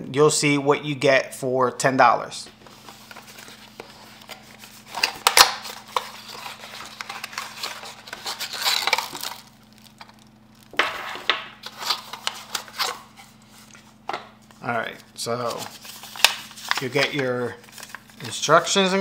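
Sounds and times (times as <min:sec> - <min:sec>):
faint steady hum: 0:00.0 - 0:19.0
packaging crinkling and rustling: 0:02.6 - 0:10.9, 0:11.6 - 0:18.6.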